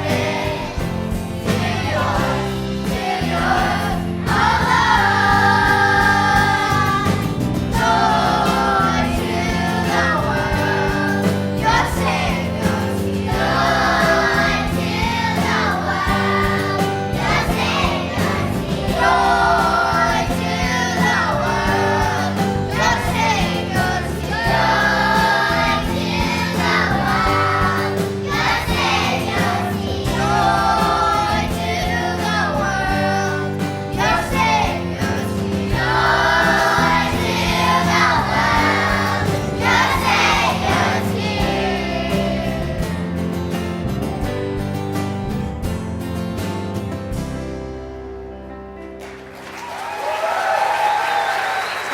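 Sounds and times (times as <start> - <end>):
choir singing: 0.0 - 43.3
instrumental accompaniment: 0.0 - 51.9.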